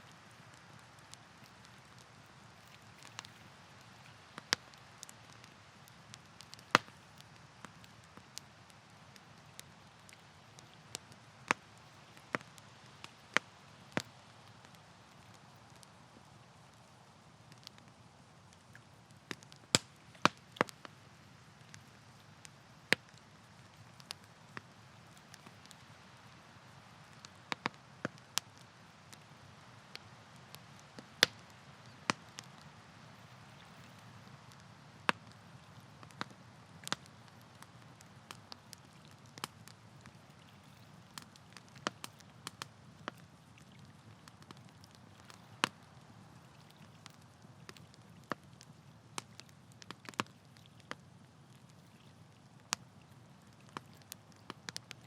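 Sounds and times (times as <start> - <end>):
campfire crackling: 0.0 - 55.0
low steady hiss: 0.0 - 55.0.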